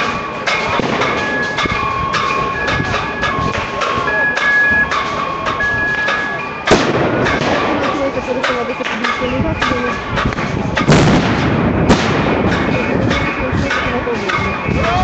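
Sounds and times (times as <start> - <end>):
loud bang: 0.0 - 15.0
metal being struck: 0.0 - 15.0
ringing metal tones: 0.0 - 15.0.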